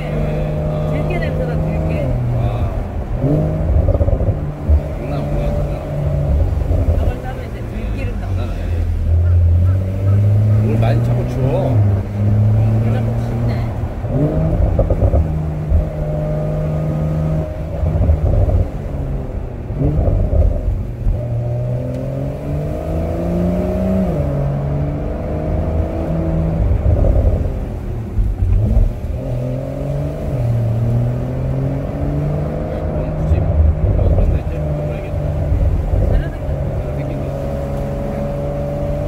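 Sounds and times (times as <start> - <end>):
car engine accelerating: 0.0 - 39.0
road rumble: 0.0 - 39.0.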